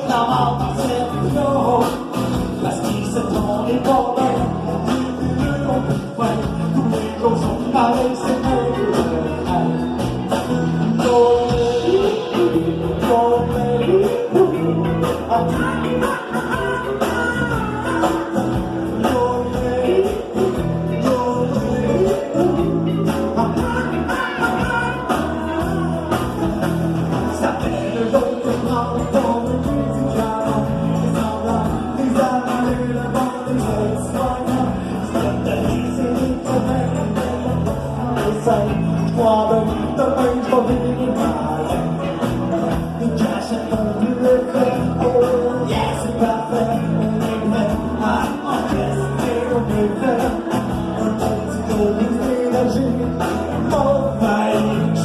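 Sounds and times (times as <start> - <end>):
person singing: 0.0 - 55.0
rock and roll band playing: 0.0 - 55.0.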